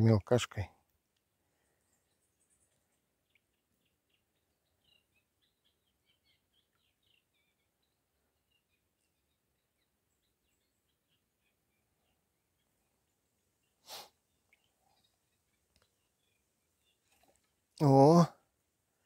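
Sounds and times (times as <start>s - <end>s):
small bird chirping: 1.6s - 18.1s.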